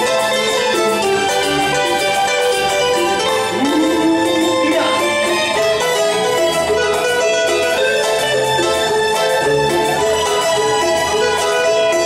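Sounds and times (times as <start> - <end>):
electric guitar melody: 0.0 - 12.0
live band playing: 0.0 - 12.0.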